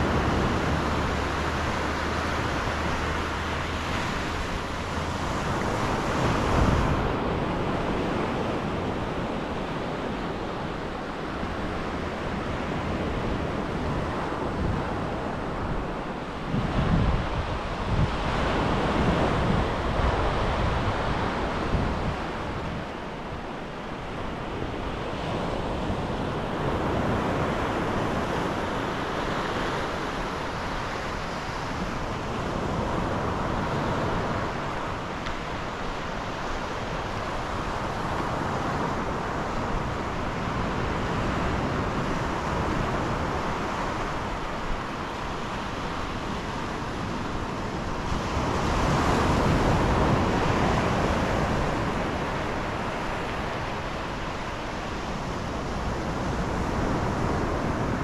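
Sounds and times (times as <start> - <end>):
sea waves breaking on a beach: 0.0 - 58.0
wind buffeting microphone: 0.0 - 58.0.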